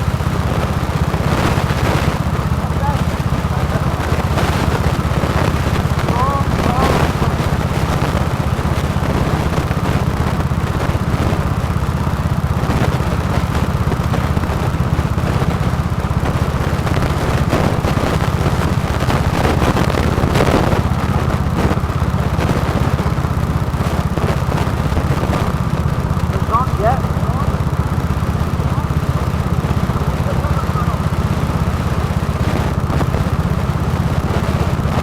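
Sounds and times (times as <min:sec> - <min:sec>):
go-kart engine running: 0:00.0 - 0:35.0.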